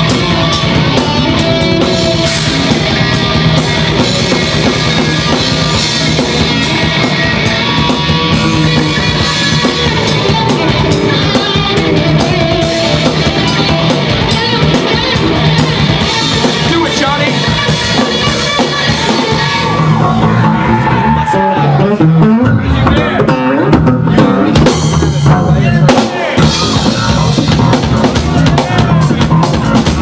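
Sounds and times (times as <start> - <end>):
drum kit: 0.0 - 30.0
electric guitar: 0.0 - 30.0
live rock band playing: 0.0 - 30.0.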